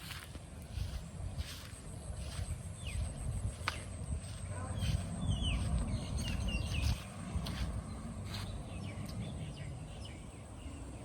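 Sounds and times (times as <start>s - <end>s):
birds chirping: 0.0s - 11.0s
outdoor background noise: 0.0s - 11.0s.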